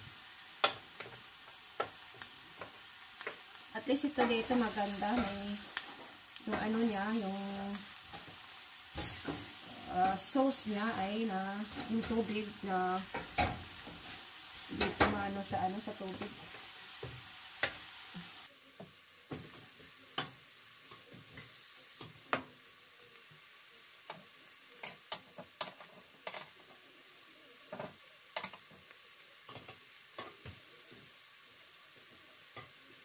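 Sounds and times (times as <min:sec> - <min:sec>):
meat sizzling on a grill: 0:00.0 - 0:33.0.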